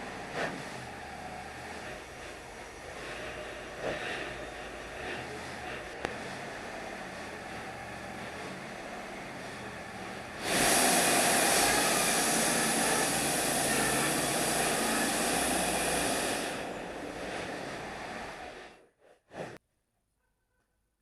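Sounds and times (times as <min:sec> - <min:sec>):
band sawmill running: 0:00.0 - 0:18.8.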